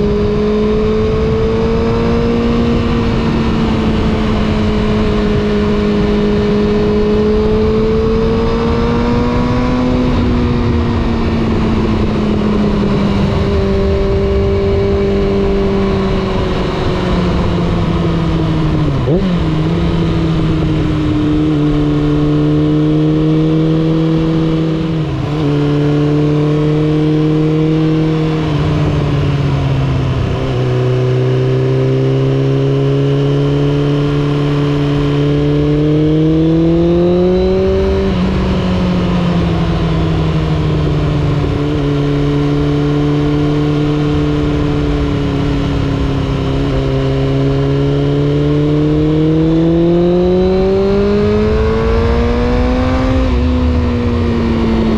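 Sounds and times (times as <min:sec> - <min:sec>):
motorcycle engine and exhaust: 0:00.0 - 0:54.9.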